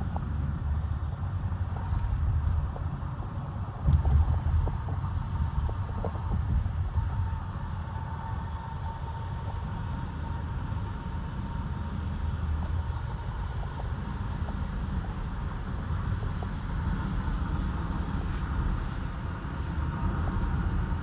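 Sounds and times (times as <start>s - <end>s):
car interior road noise: 0.0s - 21.0s.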